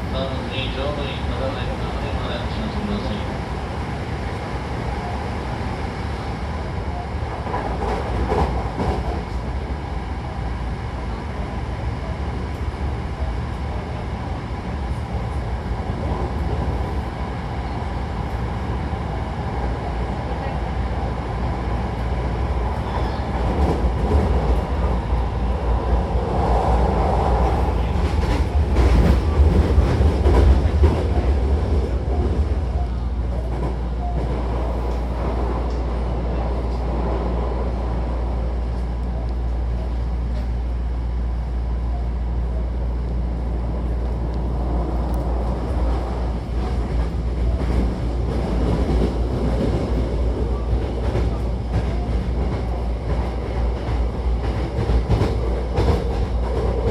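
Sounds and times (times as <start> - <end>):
train wheels rumbling: 0.0 - 56.9.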